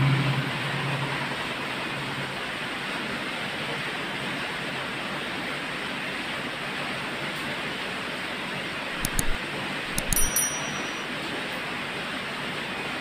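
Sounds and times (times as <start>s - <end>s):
electric fans running: 0.0s - 13.0s.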